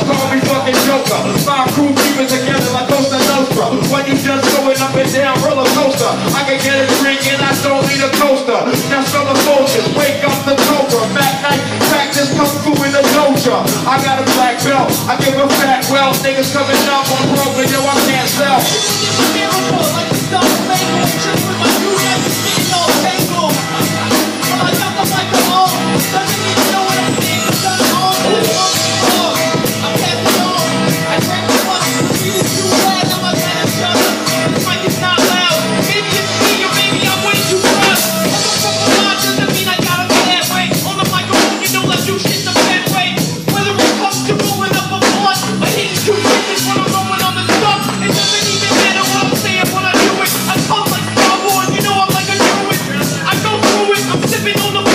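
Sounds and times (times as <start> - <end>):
hip-hop instrumental beat: 0.0 - 54.9.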